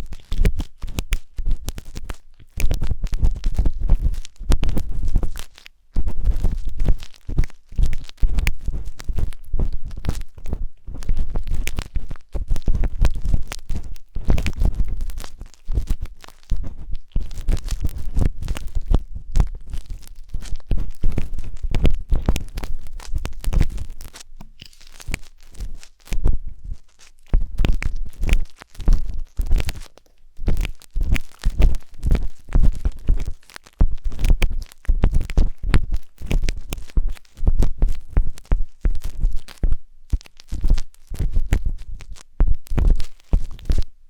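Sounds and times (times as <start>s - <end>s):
wooden skewer scraping microphone: 0.0s - 43.9s.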